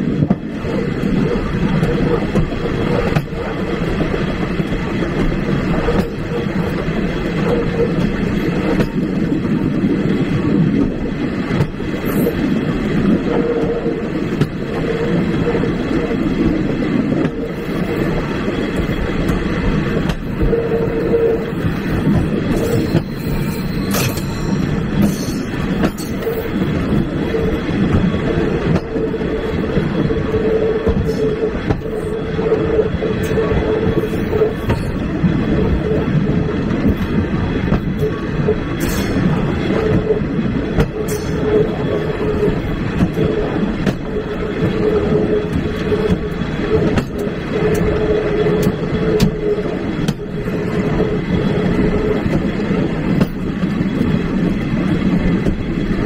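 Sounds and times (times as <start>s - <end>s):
train wheels rumbling on rail: 0.0s - 56.0s
clacks over rail joints: 0.2s - 12.4s, 17.1s - 20.5s, 21.6s - 30.0s, 33.2s - 35.4s, 36.7s - 56.0s.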